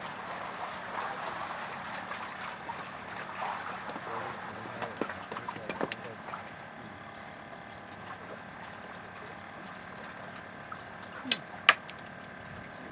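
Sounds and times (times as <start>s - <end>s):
water sloshing and lapping: 0.0s - 12.9s.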